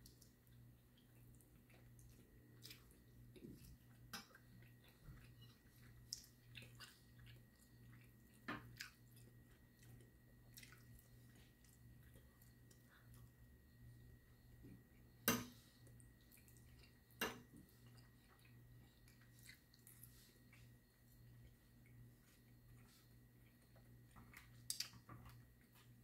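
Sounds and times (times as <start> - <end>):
low steady hum: 0.0 - 26.0
man chewing food: 0.0 - 26.0.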